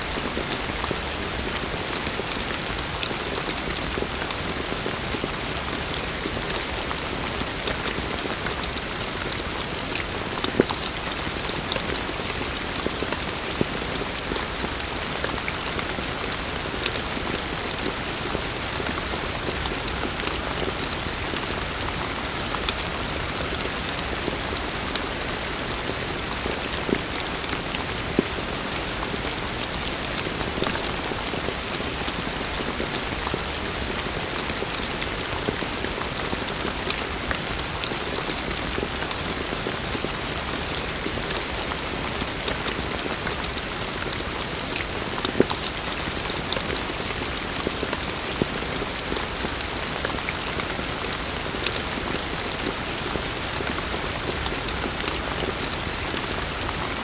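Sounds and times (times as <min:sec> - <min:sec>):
heavy rain falling: 0:00.0 - 0:57.0
raindrops ticking on surfaces: 0:00.0 - 0:57.0.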